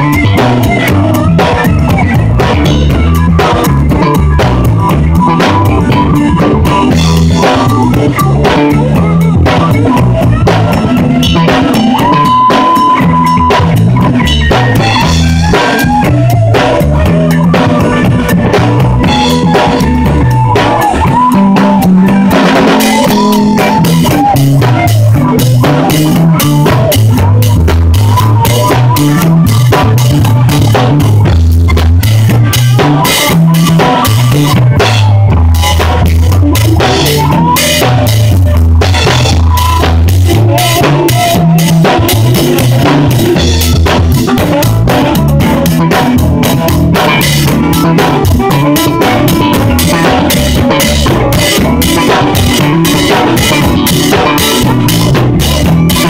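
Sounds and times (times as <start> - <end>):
drum kit: 0.0 - 56.0
electric bass line: 0.0 - 56.0
electric guitar: 0.0 - 56.0.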